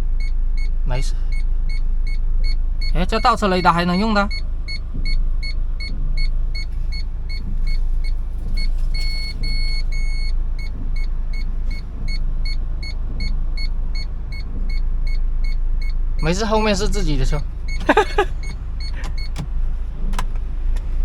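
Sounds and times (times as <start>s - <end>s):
car engine running low: 0.0s - 21.0s
parking sensor beeping: 0.0s - 21.0s.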